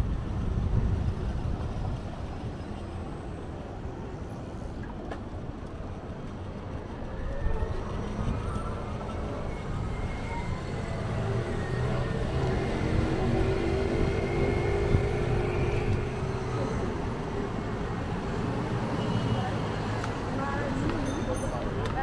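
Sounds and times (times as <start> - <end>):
low road rumble: 0.0 - 22.0.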